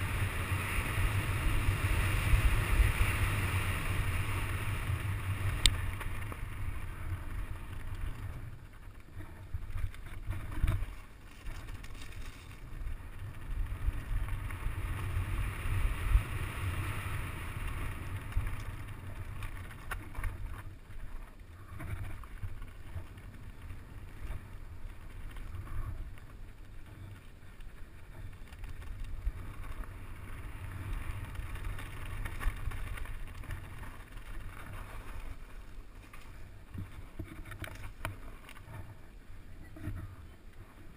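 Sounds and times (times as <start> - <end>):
bike rattling: 0.0 - 40.9
bike tyres rolling over stones: 0.0 - 40.9.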